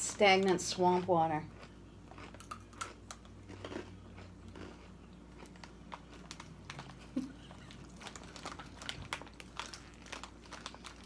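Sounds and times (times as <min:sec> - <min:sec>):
crunching chips: 0:01.5 - 0:11.0.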